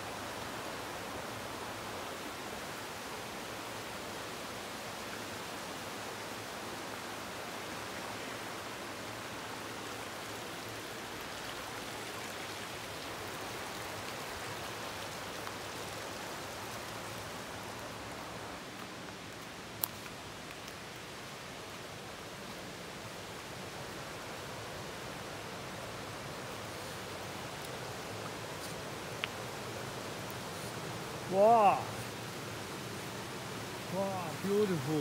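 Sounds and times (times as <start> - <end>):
creek running over rocks: 0.0 - 35.0.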